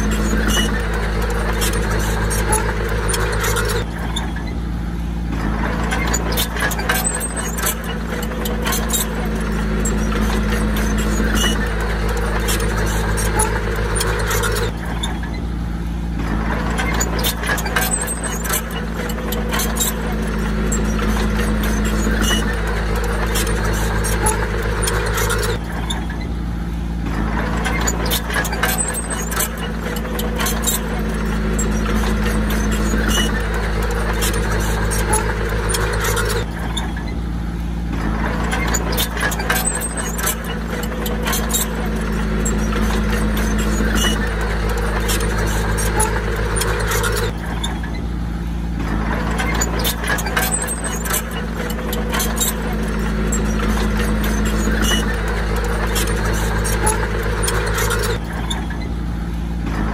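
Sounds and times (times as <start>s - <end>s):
sharp metal clicks and clanks: 0.0s - 4.6s, 5.3s - 15.4s, 16.2s - 26.3s, 27.0s - 37.2s, 37.9s - 48.1s, 48.7s - 59.0s
bulldozer diesel engine running: 0.0s - 59.9s.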